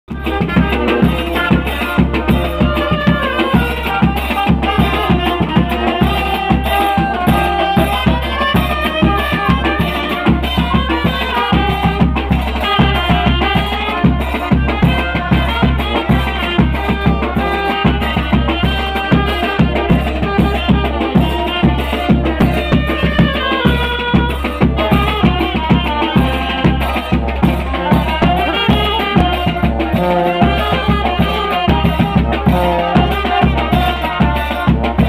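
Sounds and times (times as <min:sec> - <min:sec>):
band melody: 0:00.1 - 0:35.0
driving drum beat: 0:00.1 - 0:35.0.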